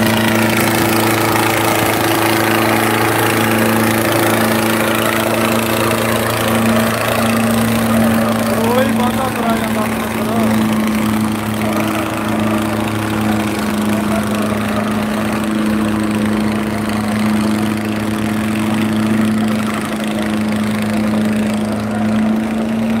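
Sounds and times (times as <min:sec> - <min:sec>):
tractor engines under heavy load: 0:00.0 - 0:23.0.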